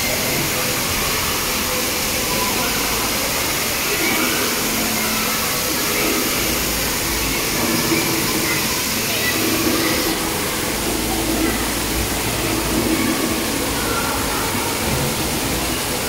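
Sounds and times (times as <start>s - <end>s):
distant voices: 0.0s - 16.0s
water spraying from fountains: 0.0s - 16.0s.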